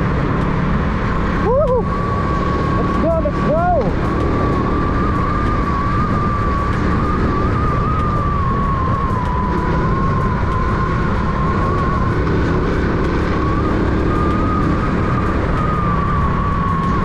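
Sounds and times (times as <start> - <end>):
motorcycle engine cruising: 0.0 - 17.0
wind rumble on microphone: 0.0 - 17.0.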